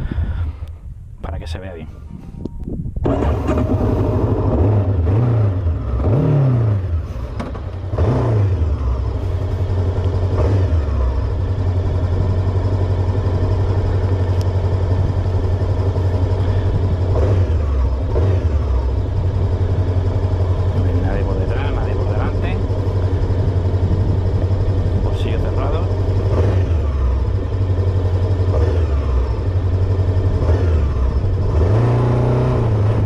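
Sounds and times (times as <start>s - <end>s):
motorcycle engine accelerating: 2.2s - 33.0s.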